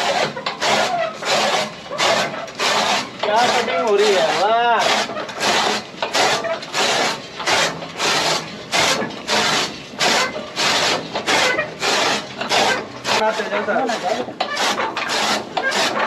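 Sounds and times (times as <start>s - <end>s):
chaff cutter chopping stalks: 0.0s - 16.0s.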